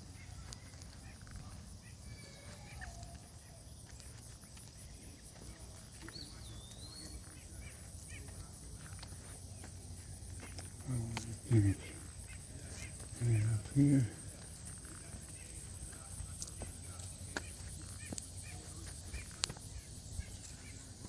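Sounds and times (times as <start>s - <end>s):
bird calls: 0.0s - 21.0s.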